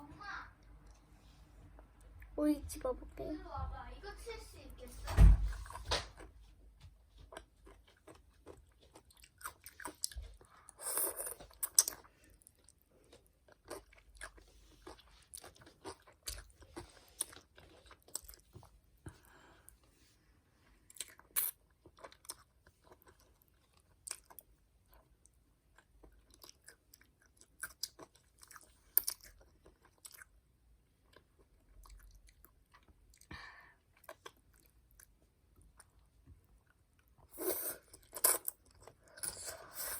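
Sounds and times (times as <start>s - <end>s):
child chewing crunchy food: 5.5s - 39.9s.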